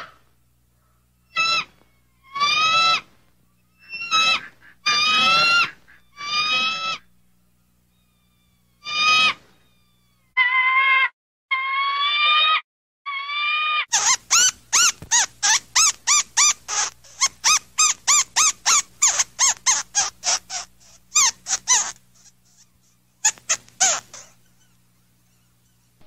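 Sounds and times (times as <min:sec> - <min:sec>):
squeaky chirps: 0:01.2 - 0:07.1, 0:07.9 - 0:10.6, 0:11.6 - 0:25.9
rising animal calls: 0:01.3 - 0:07.1, 0:07.9 - 0:25.9.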